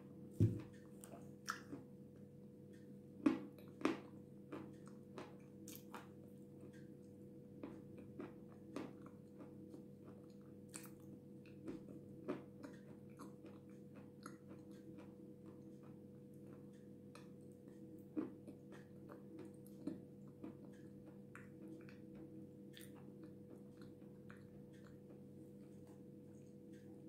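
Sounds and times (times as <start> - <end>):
faint steady hum: 0.0 - 27.0
chewing dry clay: 2.7 - 27.0.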